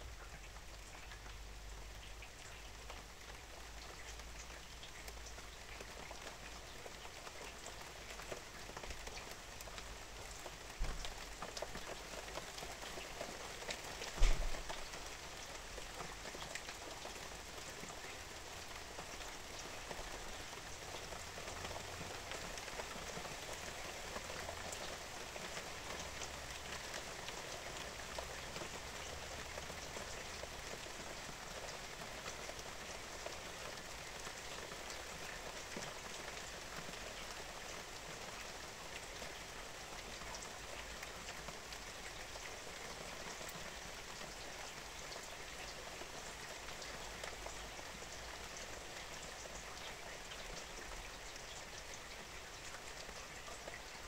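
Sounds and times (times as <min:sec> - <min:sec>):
rain drops ticking: 0:00.0 - 0:54.0.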